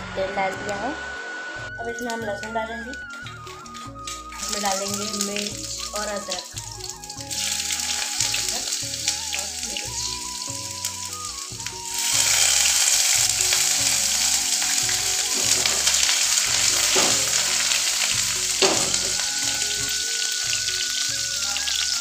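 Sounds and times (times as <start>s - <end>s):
loud sizzling burst: 0.0s - 22.0s
garlic frying in hot oil: 2.0s - 22.0s.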